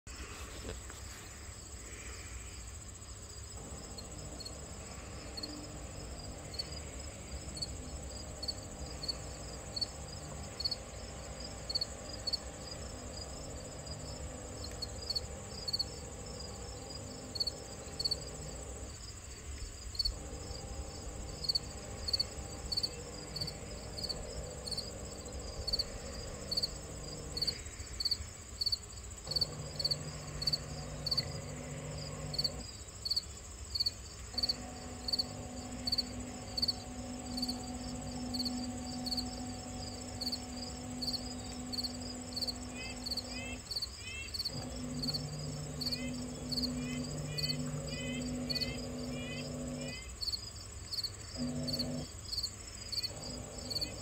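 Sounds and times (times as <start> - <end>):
crickets chirping: 0.1 - 54.0
electric motors humming: 0.1 - 54.0
high insect drone: 0.1 - 54.0.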